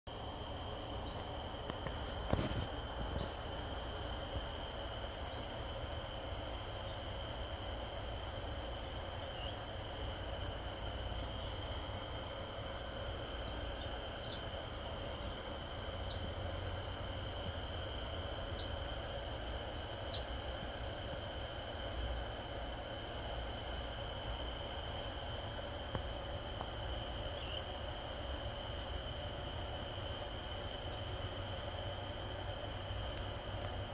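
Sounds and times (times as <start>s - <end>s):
insect trills: 0.1s - 33.9s
night insects chirping: 0.1s - 33.9s.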